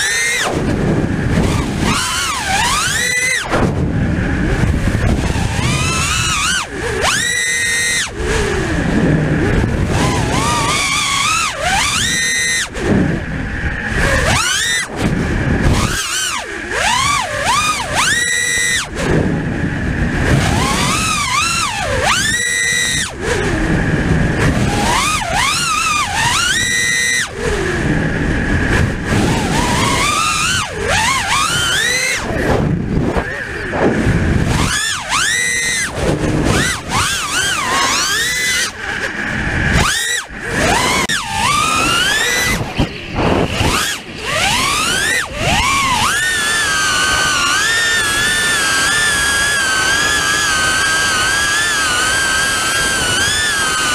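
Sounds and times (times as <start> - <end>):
quadcopter motors whining: 0.0 - 53.9.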